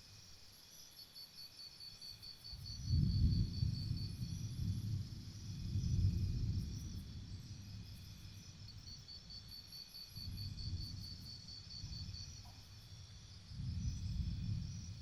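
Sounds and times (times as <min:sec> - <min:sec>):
insect pulsed chirping: 0:00.2 - 0:15.0
crickets shrilling: 0:01.8 - 0:15.0.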